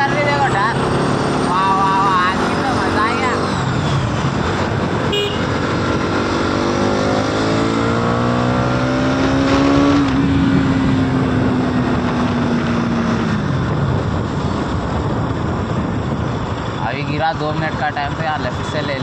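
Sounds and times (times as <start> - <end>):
motorcycle engine accelerating: 0.0 - 16.8.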